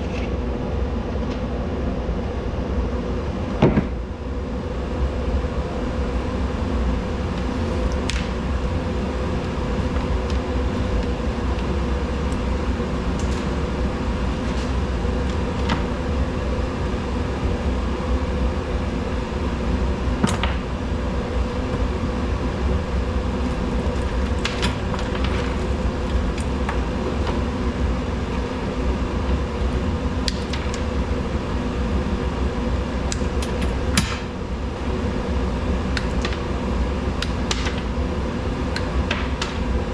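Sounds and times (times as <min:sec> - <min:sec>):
fan humming: 0:00.0 - 0:39.9.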